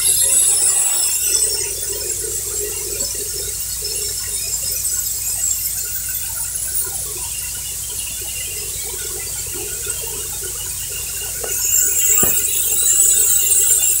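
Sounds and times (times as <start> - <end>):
high-pitched hissing squeal: 0.0 - 14.0.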